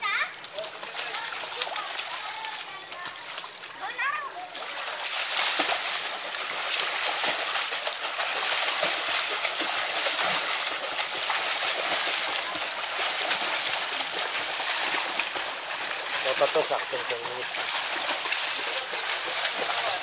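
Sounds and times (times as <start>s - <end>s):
feet splashing water: 0.0s - 20.0s.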